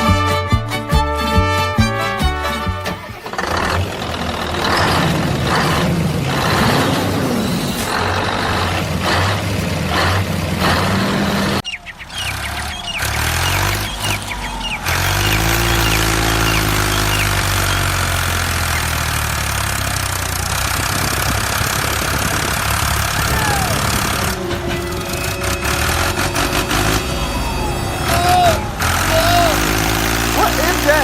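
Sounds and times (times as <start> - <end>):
truck engine running: 0.0 - 31.0
birds chirping: 2.8 - 31.0.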